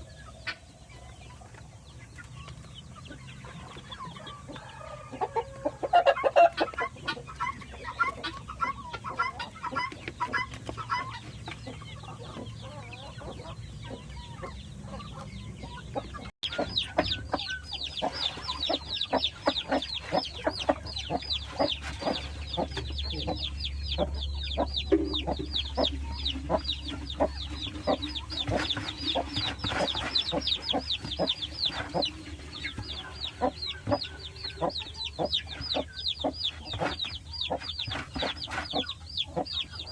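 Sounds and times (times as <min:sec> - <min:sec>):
chickens clucking and calling: 0:00.0 - 0:39.9.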